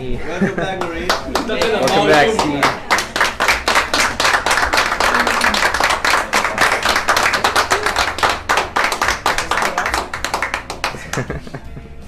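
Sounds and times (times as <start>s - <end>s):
group of people clapping: 0.8s - 11.6s.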